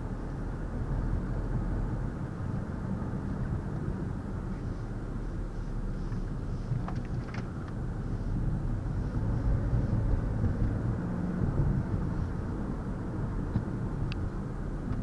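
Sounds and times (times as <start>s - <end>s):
road and engine rumble in car cabin: 0.0s - 15.0s.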